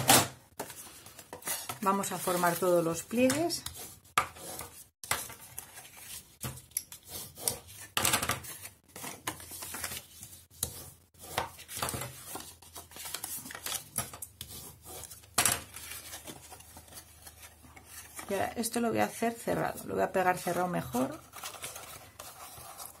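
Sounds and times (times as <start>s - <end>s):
paper rustling: 0.6s - 18.5s, 20.3s - 23.0s.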